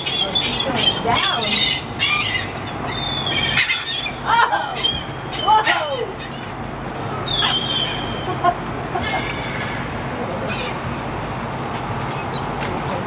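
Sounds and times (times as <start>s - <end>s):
seagulls squawking: 0.0s - 11.2s.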